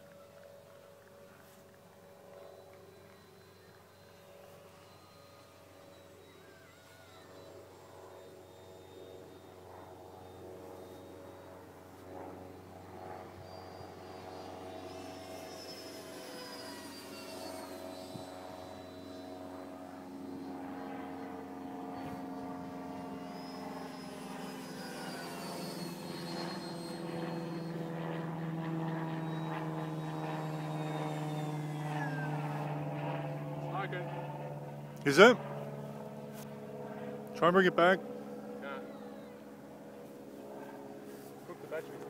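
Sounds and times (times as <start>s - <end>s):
model jet ducted fan whine: 0.0s - 42.0s.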